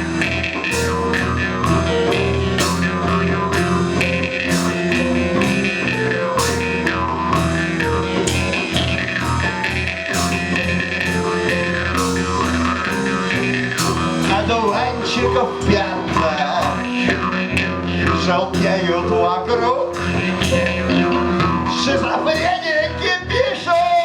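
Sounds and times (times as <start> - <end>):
bass: 0.0 - 24.0
drum kit beat: 0.0 - 24.0
keyboards: 0.0 - 24.0.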